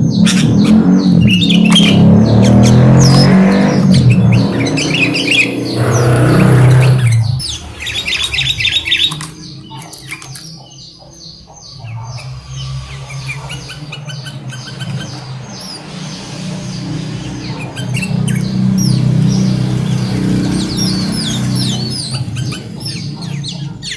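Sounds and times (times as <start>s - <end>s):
loud low rumble: 0.0s - 9.8s, 11.6s - 23.8s
birds chirping and squawking: 0.0s - 23.9s.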